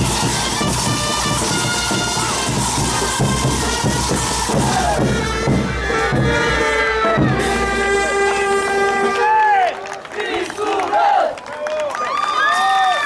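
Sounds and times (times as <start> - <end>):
band playing dance music: 0.0 - 11.2.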